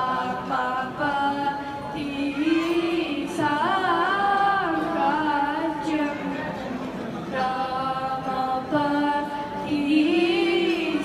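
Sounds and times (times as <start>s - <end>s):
girls singing unaccompanied: 0.0s - 6.4s, 7.2s - 11.0s.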